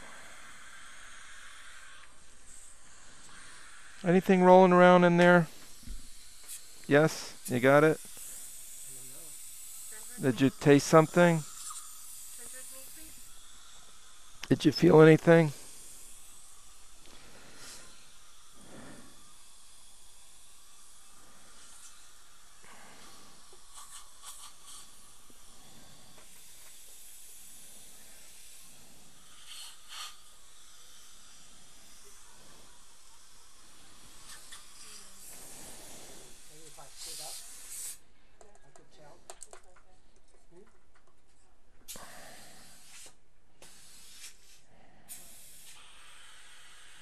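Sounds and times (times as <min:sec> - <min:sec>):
dental suction hissing: 0:00.0 - 0:38.1, 0:41.9 - 0:47.0.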